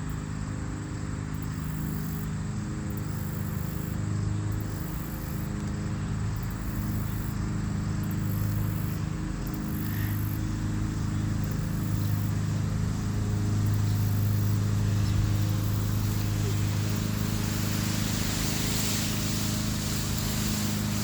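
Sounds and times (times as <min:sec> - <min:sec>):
low engine-like hum: 0:00.0 - 0:21.0
insects trilling: 0:00.8 - 0:21.0.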